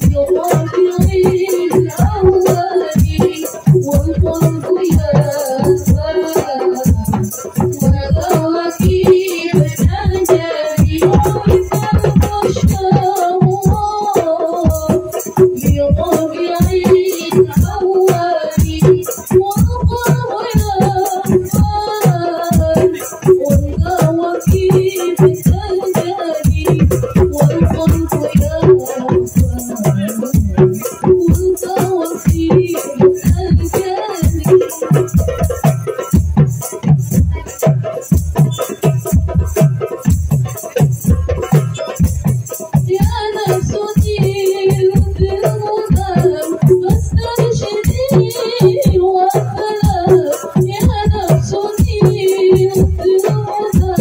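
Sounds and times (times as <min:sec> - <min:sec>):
frame drums: 0:00.0 - 0:54.0
woman singing into a microphone: 0:00.0 - 0:54.0.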